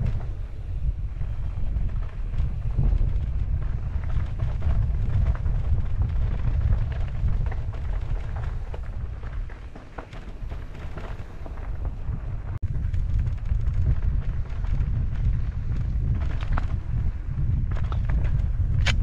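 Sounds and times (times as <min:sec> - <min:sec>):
bike clicks and rattles: 0:00.0 - 0:19.0
tyres on rough dirt trail: 0:00.0 - 0:19.0
wind rumbling on microphone: 0:00.0 - 0:19.0.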